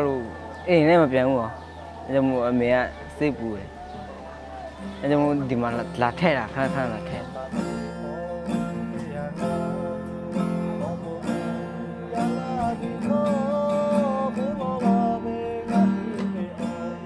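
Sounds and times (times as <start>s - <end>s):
gliding melody line: 0.0s - 17.0s
strummed acoustic guitar: 0.0s - 17.0s.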